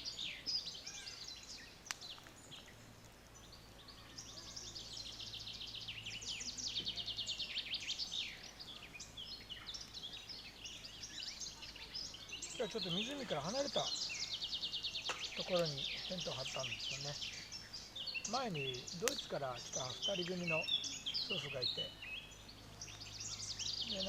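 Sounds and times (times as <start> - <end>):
songbirds trilling: 0.0 - 24.0.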